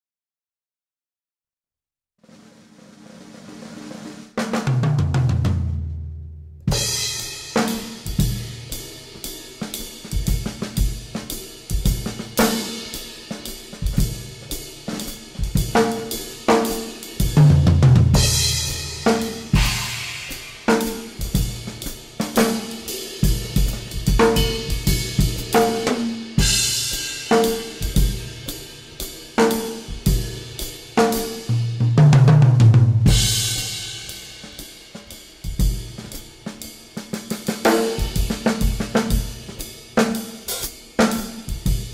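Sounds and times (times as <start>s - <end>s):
drum kit groove: 2.2s - 41.9s.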